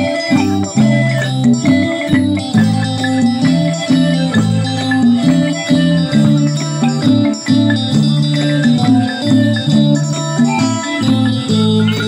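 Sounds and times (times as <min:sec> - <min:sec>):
folk ensemble playing dance tune: 0:00.0 - 0:12.0.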